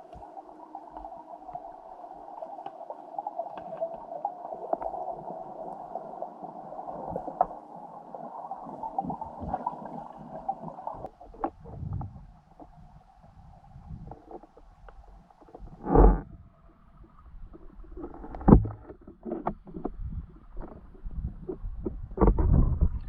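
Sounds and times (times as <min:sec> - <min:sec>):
low underwater rumble: 0:00.0 - 0:23.0
underwater gurgling wash: 0:00.0 - 0:23.0.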